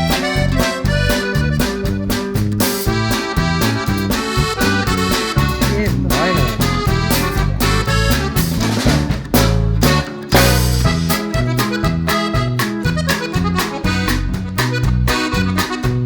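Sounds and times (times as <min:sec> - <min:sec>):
accordion-like lead melody: 0:00.0 - 0:16.0
steady bass beat: 0:00.0 - 0:16.0.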